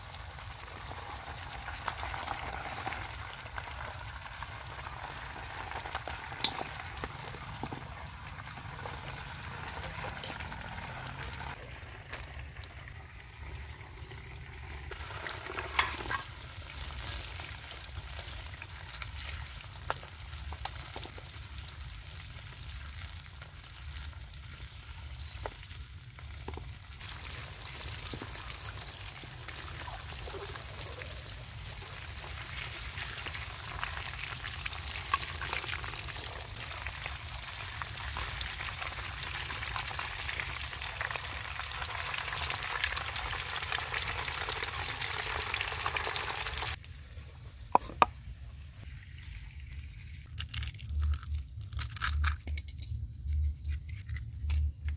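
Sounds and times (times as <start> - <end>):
hot oil sizzling in a wok: 0.0 - 48.0.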